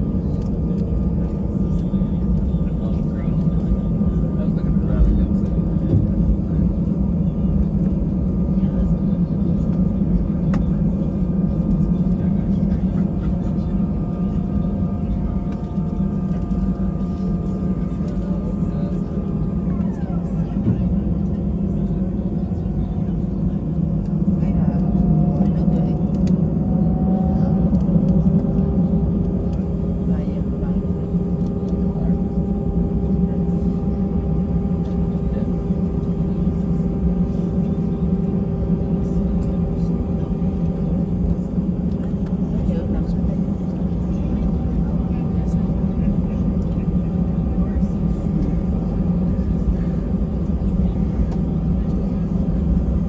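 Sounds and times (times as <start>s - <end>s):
aircraft cabin hum: 0.0s - 53.0s
jet engine whine: 0.0s - 53.0s.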